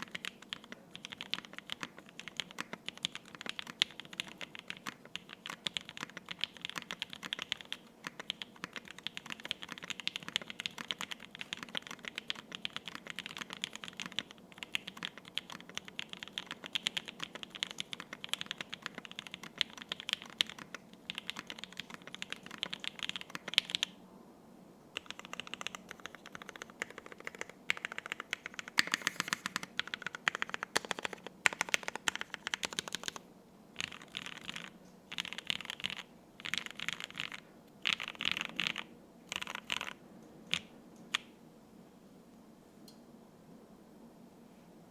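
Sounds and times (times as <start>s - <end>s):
mechanical keyboard typing: 0.0s - 24.0s, 25.0s - 33.2s, 33.8s - 41.3s.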